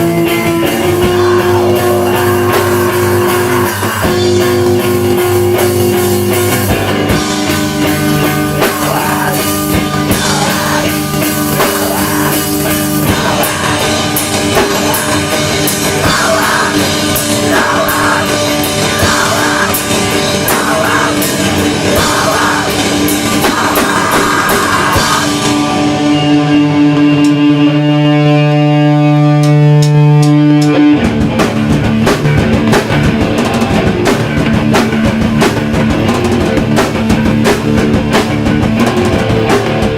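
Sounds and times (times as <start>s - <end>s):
punk band playing live: 0.0s - 39.9s
ringing guitar chords: 0.0s - 39.9s.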